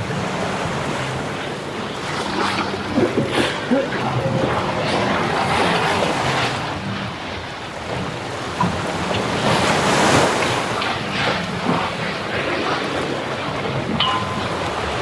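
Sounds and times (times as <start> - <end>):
sea water washing along hull: 0.0 - 15.0
wind buffeting microphone: 0.0 - 15.0.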